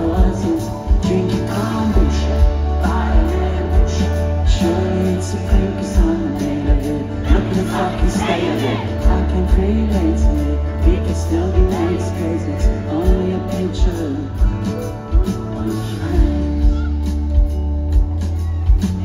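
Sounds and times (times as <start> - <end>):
person singing: 0.0 - 17.5
acoustic and electric guitars: 0.0 - 19.0
sustained bass: 0.0 - 19.0.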